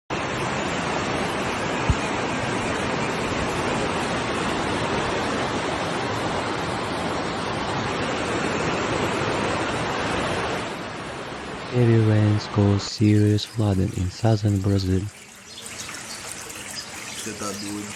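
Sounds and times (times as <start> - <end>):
water rushing: 0.1 - 17.9.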